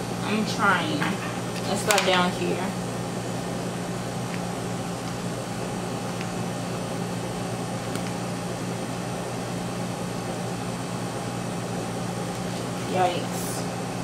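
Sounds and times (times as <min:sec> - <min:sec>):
kitchen appliance humming: 0:00.0 - 0:14.0.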